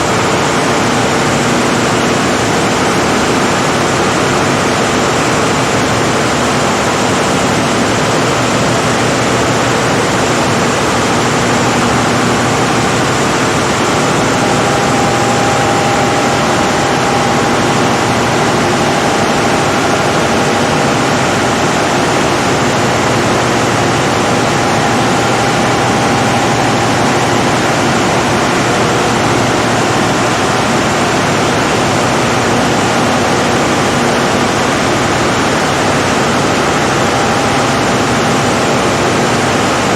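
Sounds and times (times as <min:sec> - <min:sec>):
diesel generator running: 0:00.0 - 0:39.9.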